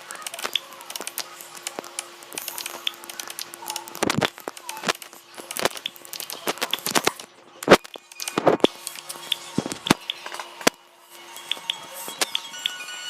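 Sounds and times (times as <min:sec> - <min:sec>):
sharp clicks and taps: 0:00.2 - 0:10.8.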